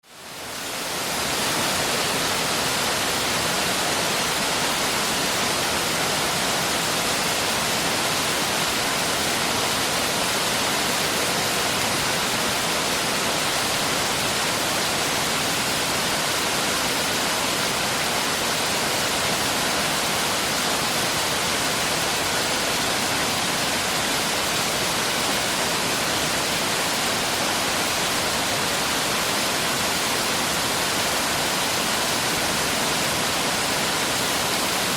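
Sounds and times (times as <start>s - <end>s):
stream rushing: 0.0s - 34.9s.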